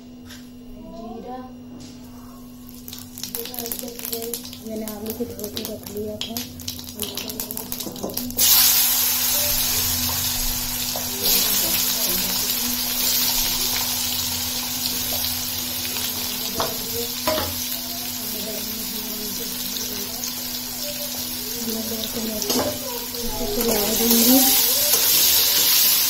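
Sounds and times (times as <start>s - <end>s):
potatoes sizzling in hot oil: 2.7s - 26.0s.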